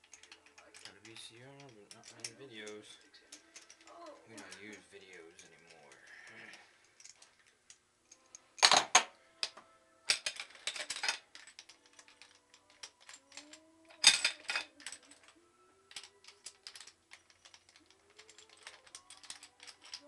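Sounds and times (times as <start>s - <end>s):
small metal clinks: 0.0s - 20.0s.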